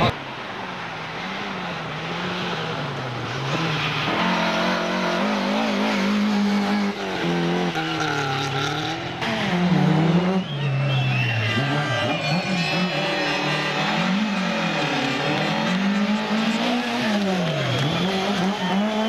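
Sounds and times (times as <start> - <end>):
racing car engine revving: 1.1 - 19.0.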